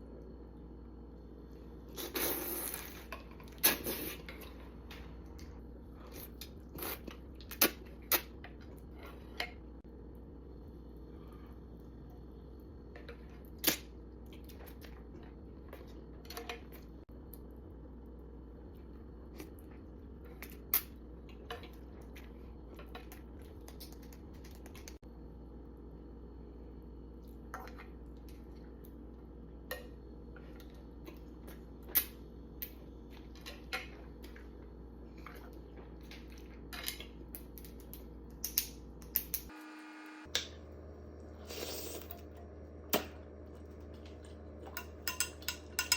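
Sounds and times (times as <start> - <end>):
low hum: 2.6 - 45.9.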